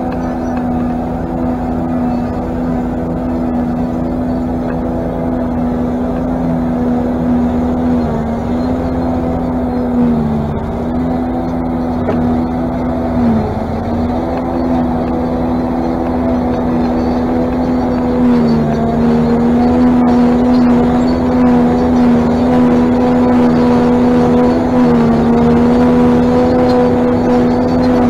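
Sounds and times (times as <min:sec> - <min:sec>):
forage harvester engine humming: 0:00.0 - 0:28.0.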